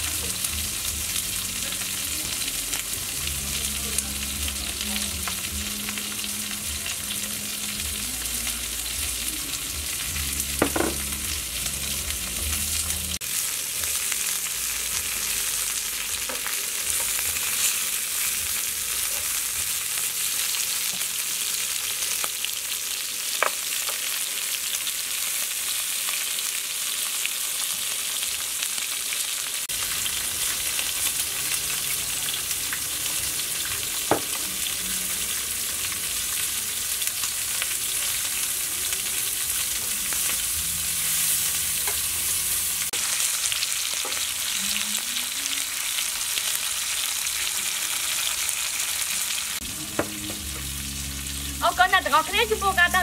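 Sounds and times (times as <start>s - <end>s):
food sizzling on a grill plate: 0.0s - 53.0s.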